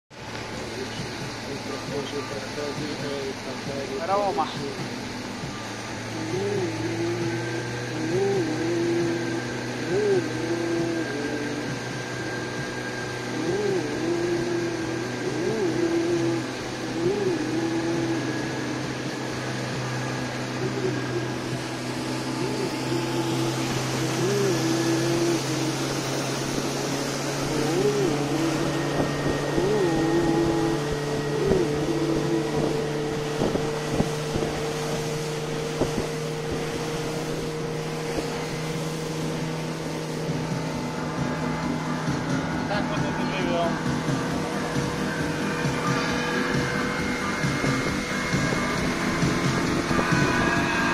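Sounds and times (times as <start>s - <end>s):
motorboat engine running: 0.0s - 50.9s
water rushing along hull: 0.1s - 50.9s
rising and falling tone: 0.3s - 50.9s
wind on microphone: 4.6s - 50.9s.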